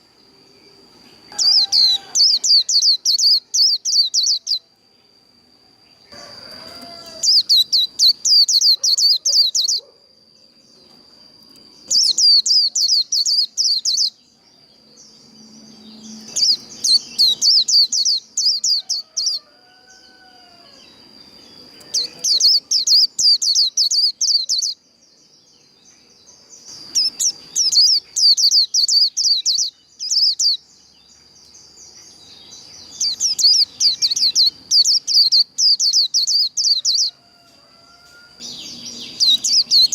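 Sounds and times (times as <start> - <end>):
bird singing high warble: 0.0 - 39.9.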